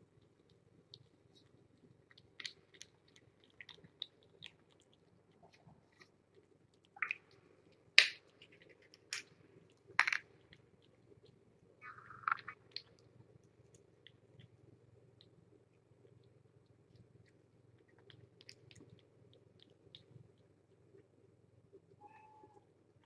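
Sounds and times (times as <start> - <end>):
kittens chewing and licking: 0.0 - 22.0.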